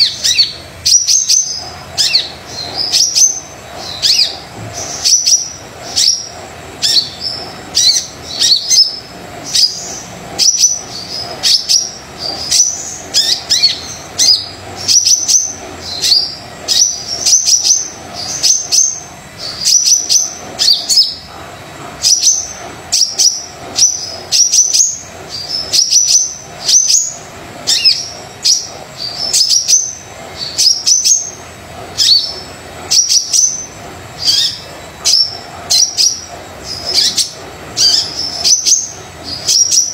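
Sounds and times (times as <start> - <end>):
bird chirping: 0.0 - 39.9
faint steady hum: 0.0 - 39.9.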